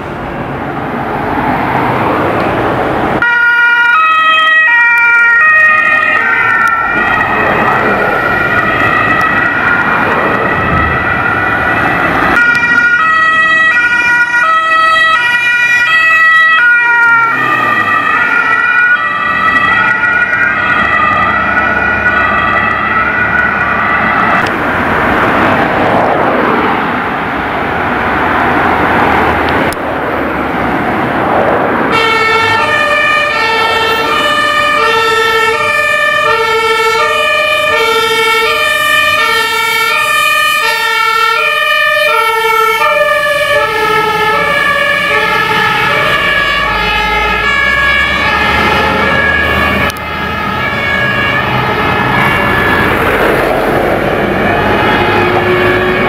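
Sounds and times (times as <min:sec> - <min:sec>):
traffic noise: 0:00.0 - 0:56.0
truck engine rumble: 0:00.0 - 0:56.0
two-tone fire engine siren: 0:00.0 - 0:56.0.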